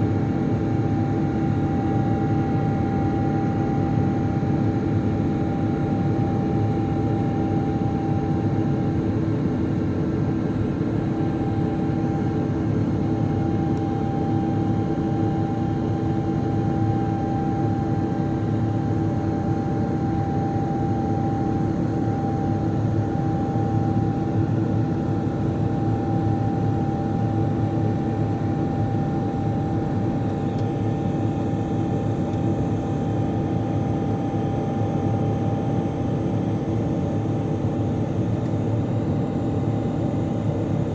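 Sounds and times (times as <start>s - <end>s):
jet engine drone in cabin: 0.0s - 40.9s.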